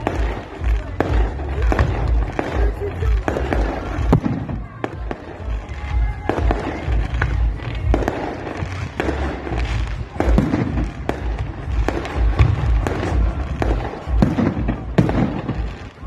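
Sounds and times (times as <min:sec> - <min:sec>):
deep fireworks booms: 0:00.0 - 0:16.0
fireworks bangs and crackles: 0:00.0 - 0:16.0.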